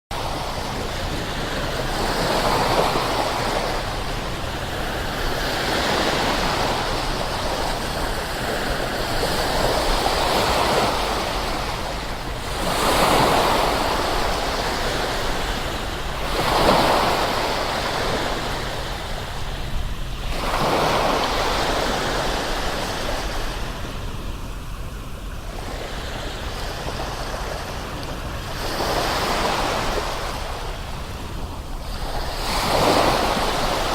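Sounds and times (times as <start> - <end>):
ocean waves breaking: 0.1 - 33.9.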